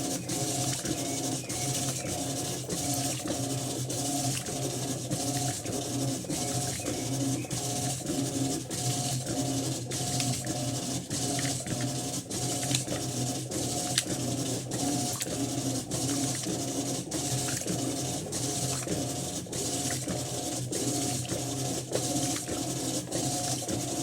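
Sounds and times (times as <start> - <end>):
washing machine agitating: 0.0 - 24.0.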